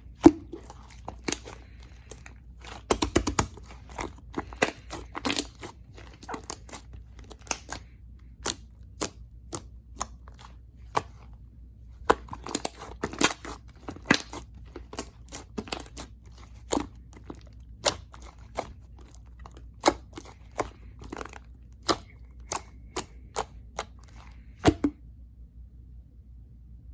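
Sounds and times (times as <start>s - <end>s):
slime squished by hand: 0.0s - 25.0s.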